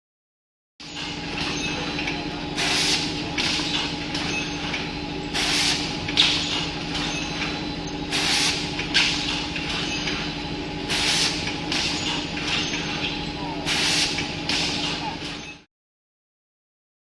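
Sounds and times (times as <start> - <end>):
packaging machine hum: 0.8 - 15.6
sharp machine clack: 0.8 - 15.7.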